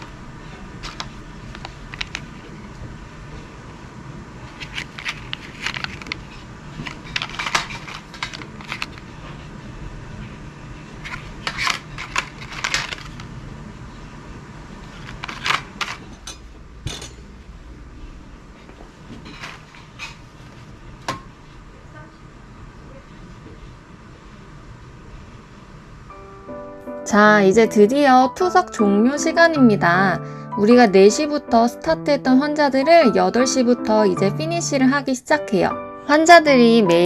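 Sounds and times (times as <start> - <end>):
low room hum: 0.0 - 35.7.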